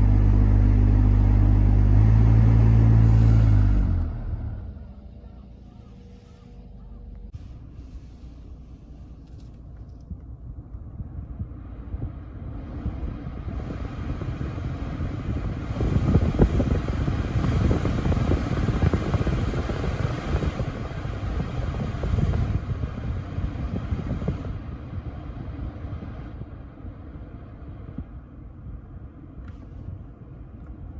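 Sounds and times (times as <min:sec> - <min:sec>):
blower fan air rush: 0:00.0 - 0:30.9
low rattling rumble: 0:00.0 - 0:30.9.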